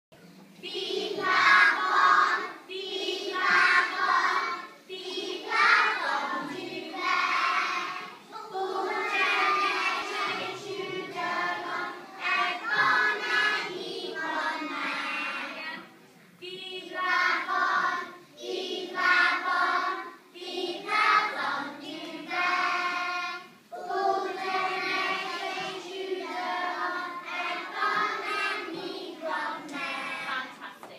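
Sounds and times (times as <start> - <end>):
children's choir singing: 0.6 - 30.6.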